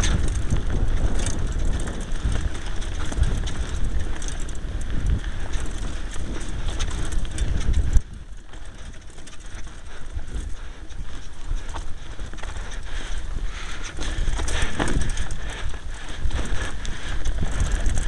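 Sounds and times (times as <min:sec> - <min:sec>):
bike rattling clicks and knocks: 0:00.0 - 0:18.0
bike rumbling over dirt trail: 0:00.0 - 0:18.0.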